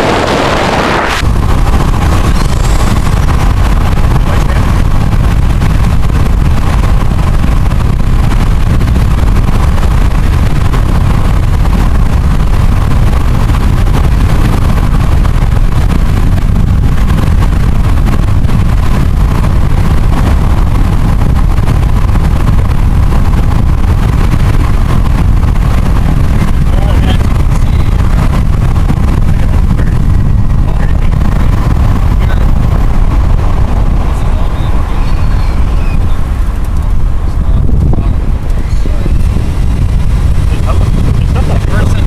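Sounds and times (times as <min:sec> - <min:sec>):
car road and wind noise: 0:00.0 - 0:42.0.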